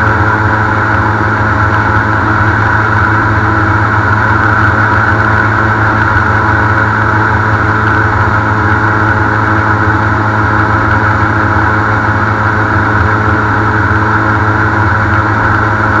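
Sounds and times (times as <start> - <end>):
airboat engine and propeller drone: 0.0 - 16.0.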